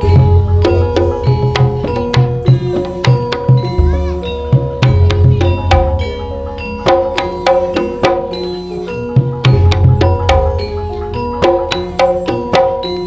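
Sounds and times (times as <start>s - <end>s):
hand drums: 0.0s - 13.0s.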